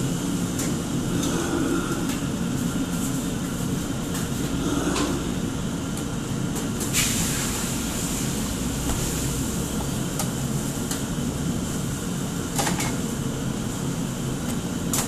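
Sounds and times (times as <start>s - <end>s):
extraction fan: 0.0s - 15.0s.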